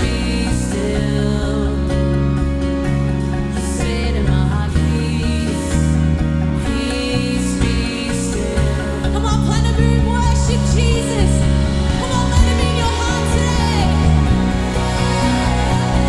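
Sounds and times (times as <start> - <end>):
electric bass line: 0.0 - 16.0
gliding lead melody: 0.0 - 16.0
worship band music: 0.0 - 16.0.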